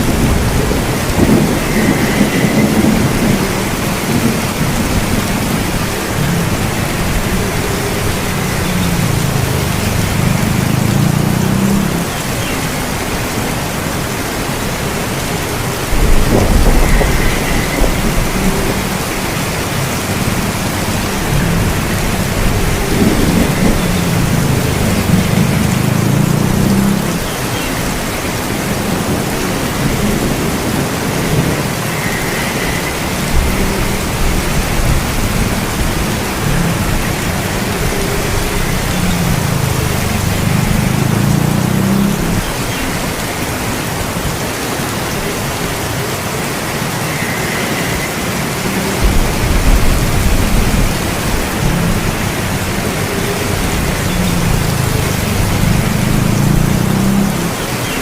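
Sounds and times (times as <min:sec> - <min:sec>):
low rolling thunder: 0:00.0 - 0:13.4, 0:14.4 - 0:43.2, 0:48.9 - 0:57.6
heavy rain hissing: 0:00.0 - 0:58.0.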